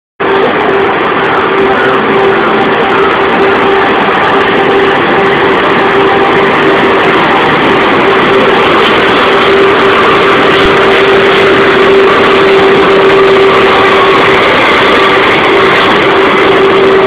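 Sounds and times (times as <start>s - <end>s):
electric locomotive passing: 0.2s - 17.0s
steady hum: 0.2s - 17.0s.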